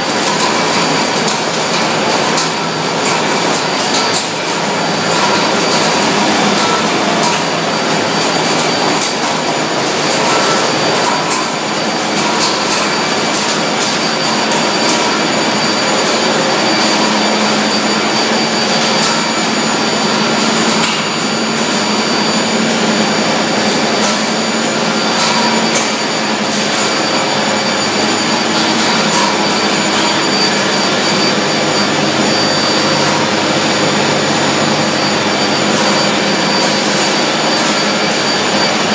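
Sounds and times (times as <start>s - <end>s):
machinery running with high whine: 0.0s - 38.9s.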